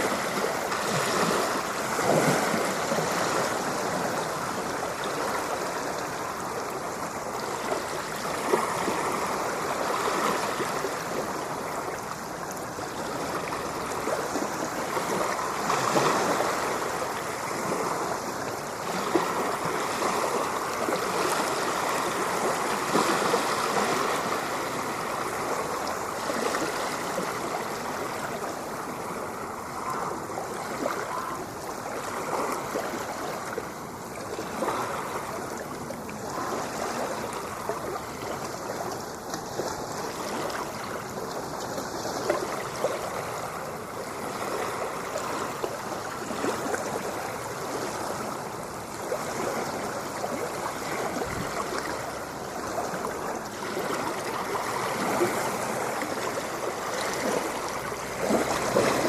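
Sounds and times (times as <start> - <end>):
ocean water lapping on shore: 0.0 - 59.0.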